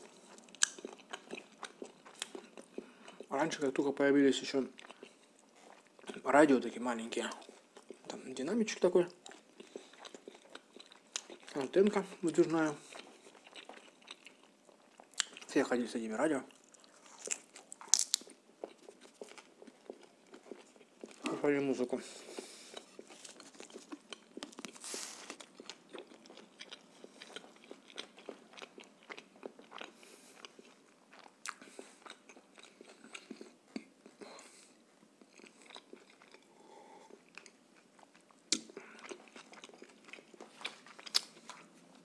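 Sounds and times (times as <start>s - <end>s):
person chewing food: 0.0s - 3.7s, 4.6s - 6.3s, 7.0s - 8.2s, 8.8s - 15.5s, 16.4s - 42.0s.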